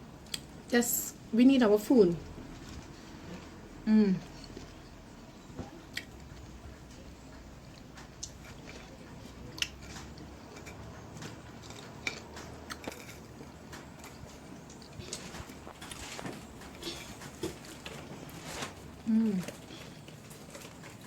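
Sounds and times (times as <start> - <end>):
soft crunches of eating: 2.2 - 21.0
person chewing food: 2.4 - 21.0.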